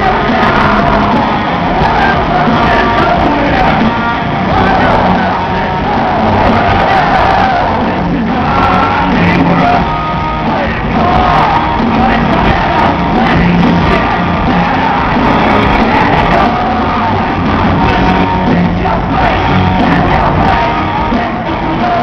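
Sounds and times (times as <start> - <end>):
hard rock band playing live: 0.0 - 22.0
loud drums: 0.0 - 22.0.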